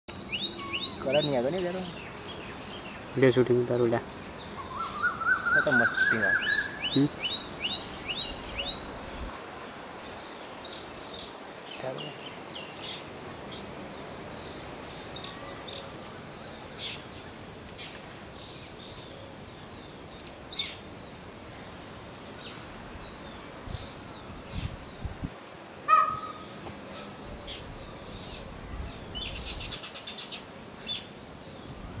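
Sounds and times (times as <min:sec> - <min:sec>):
high insect drone: 0:00.1 - 0:32.0.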